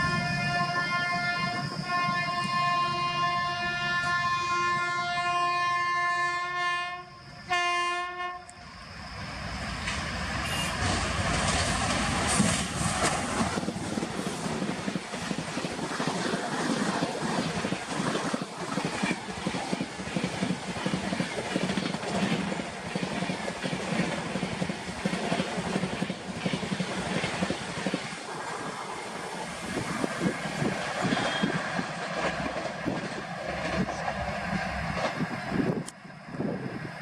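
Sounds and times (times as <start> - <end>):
train coaches rattling over track: 0.0 - 5.4, 9.1 - 37.0
train passing at high speed: 0.0 - 37.0.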